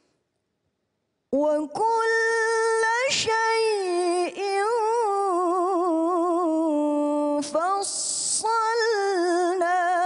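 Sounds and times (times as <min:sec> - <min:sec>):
woman reciting melodically: 0:01.3 - 0:10.0.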